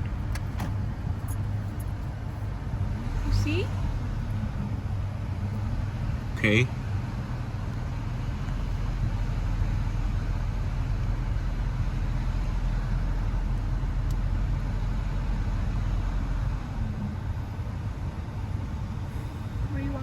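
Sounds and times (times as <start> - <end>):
pickup truck engine and road rumble: 0.0 - 20.0.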